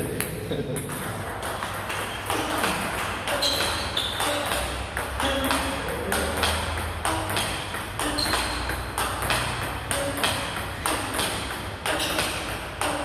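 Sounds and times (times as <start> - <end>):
table tennis ball clicking: 0.1 - 13.0.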